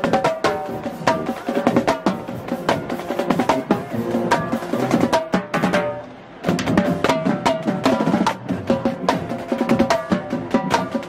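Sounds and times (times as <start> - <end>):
music with drum beat and melody: 0.0 - 11.0.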